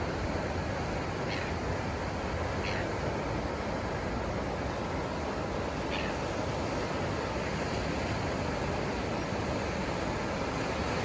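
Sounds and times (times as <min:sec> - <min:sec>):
ocean surf on sandy beach: 0:00.0 - 0:11.0.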